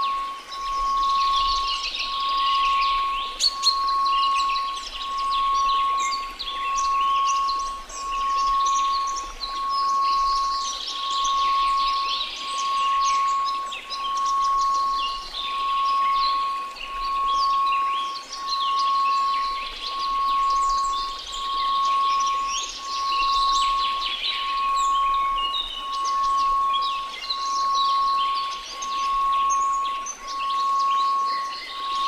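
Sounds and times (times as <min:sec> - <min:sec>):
birds chirping: 0:00.0 - 0:32.0
pure tone: 0:00.0 - 0:32.0
white noise hiss: 0:00.0 - 0:32.0.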